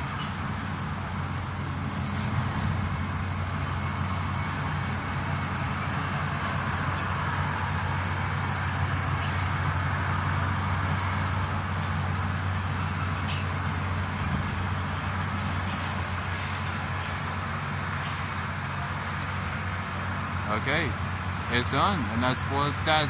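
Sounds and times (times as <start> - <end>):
heavy machinery engine hum: 0.0 - 23.0.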